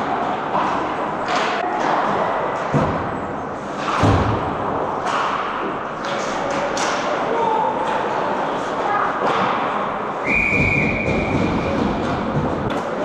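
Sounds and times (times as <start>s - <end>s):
arena noise: 0.0s - 13.0s.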